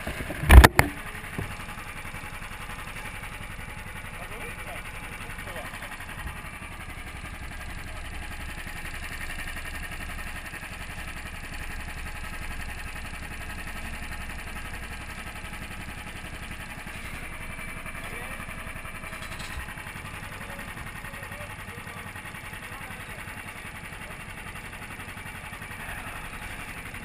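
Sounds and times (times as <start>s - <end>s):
kart engine idling: 0.0s - 27.0s.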